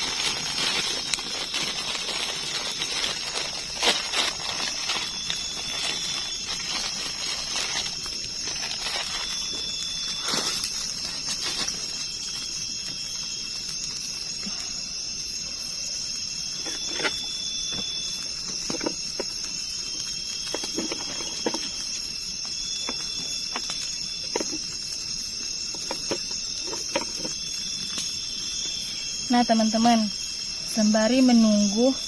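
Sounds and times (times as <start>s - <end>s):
insect call in short bursts: 0.0s - 32.0s
insects chirring in a high drone: 0.0s - 32.0s.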